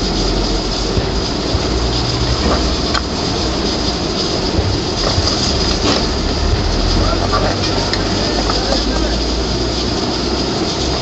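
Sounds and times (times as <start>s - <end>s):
gas burner roaring: 0.0s - 11.0s.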